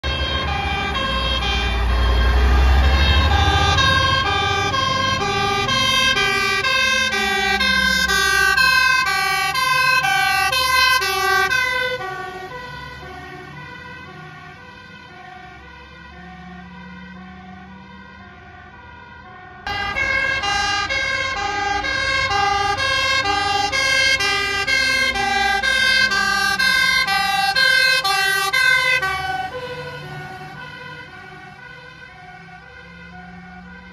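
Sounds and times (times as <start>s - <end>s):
diesel engine noise: 0.0s - 33.9s
two-tone sirens wailing: 0.0s - 33.9s.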